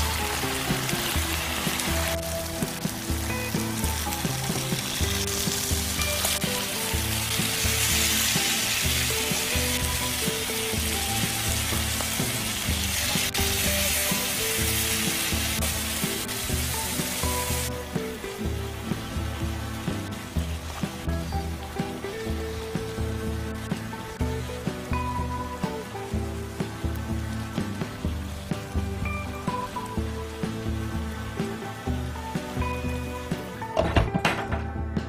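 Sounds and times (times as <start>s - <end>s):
tofu sizzling in frying pan: 0.0s - 33.6s
background music: 0.0s - 35.0s.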